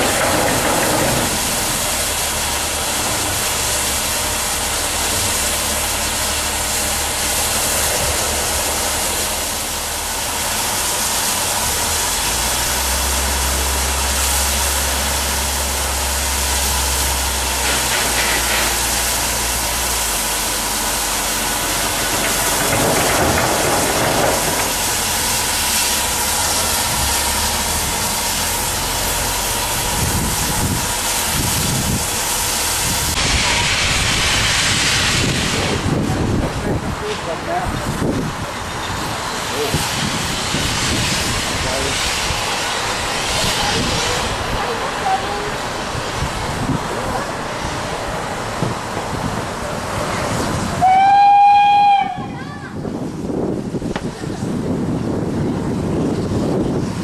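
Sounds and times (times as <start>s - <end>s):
low engine hum: 0.0s - 50.8s
steam locomotive hissing steam: 0.0s - 57.0s.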